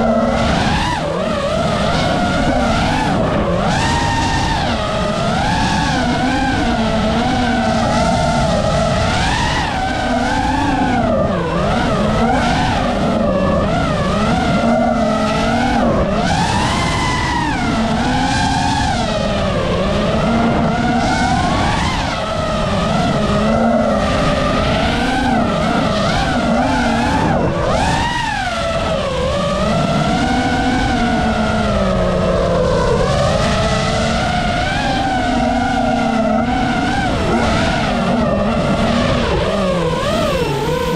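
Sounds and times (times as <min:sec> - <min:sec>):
drone motors and propellers whining: 0:00.0 - 0:40.9.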